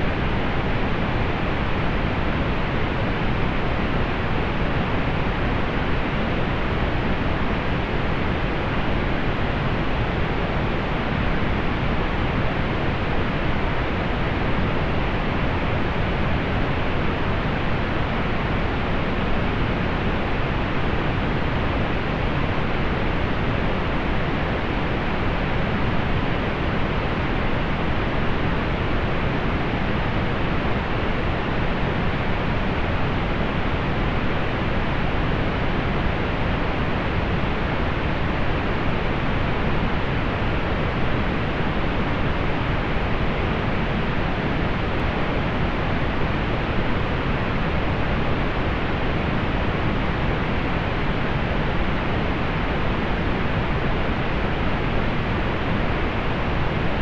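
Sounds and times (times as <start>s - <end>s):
soft pink noise hiss: 0.0s - 57.0s.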